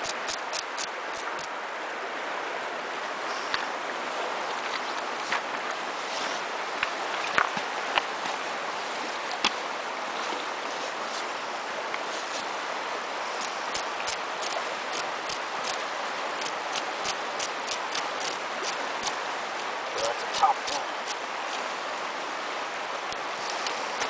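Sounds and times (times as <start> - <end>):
river flowing: 0.0 - 24.0.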